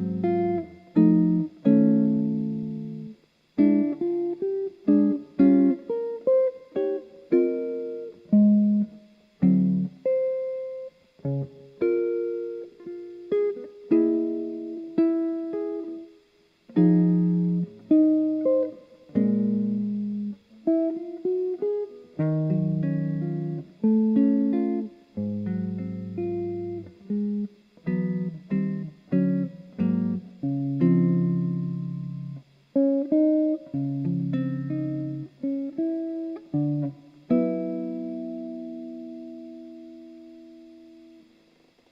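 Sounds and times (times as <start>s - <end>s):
clean guitar chords: 0.0s - 41.9s.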